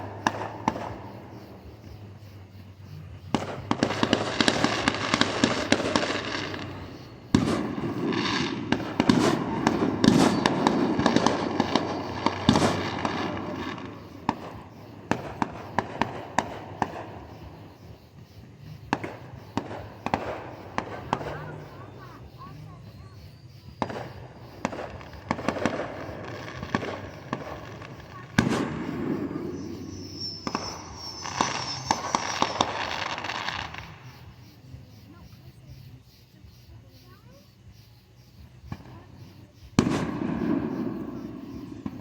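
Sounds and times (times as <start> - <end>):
fireworks crackling pops: 0.0 - 2.2, 3.2 - 34.7, 38.4 - 42.0.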